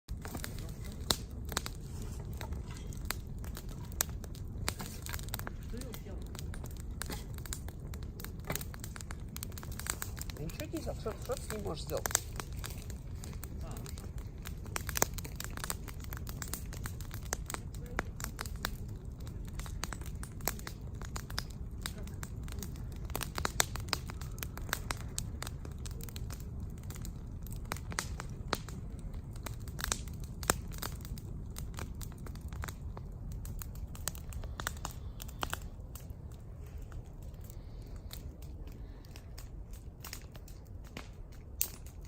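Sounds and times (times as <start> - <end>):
campfire crackling and popping: 0.1 - 42.0.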